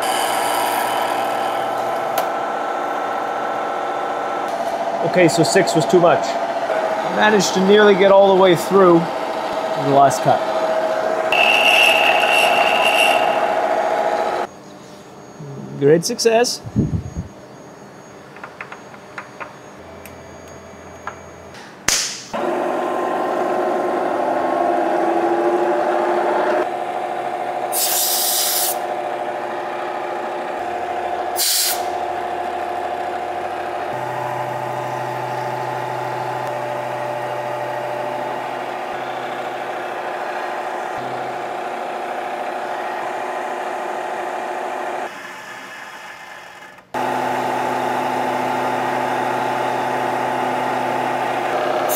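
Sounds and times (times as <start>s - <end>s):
milling machine whine: 0.0s - 21.5s, 22.4s - 51.9s.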